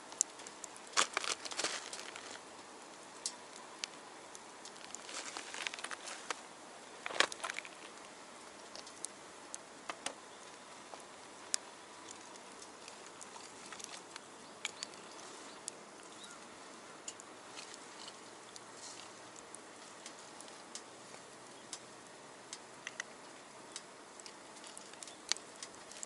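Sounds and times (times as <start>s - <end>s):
low steady hiss: 0.0s - 26.0s
wood fire crackling and popping: 0.0s - 26.0s.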